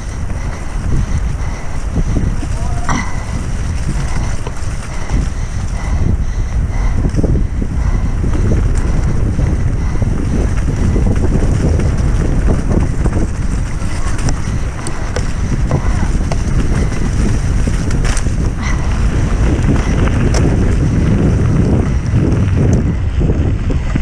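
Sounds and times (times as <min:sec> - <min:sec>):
bike rattling over rough ground: 0:00.0 - 0:24.0
wind buffeting microphone: 0:00.0 - 0:24.0.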